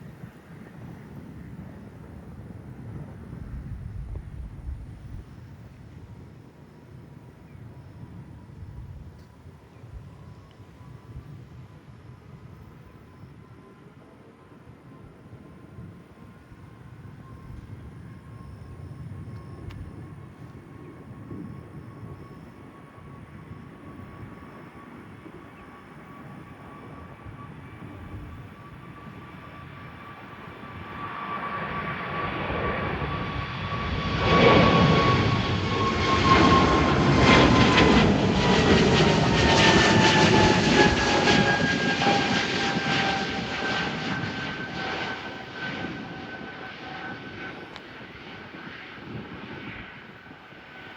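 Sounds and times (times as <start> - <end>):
jet airliner taking off: 0.0 - 50.9.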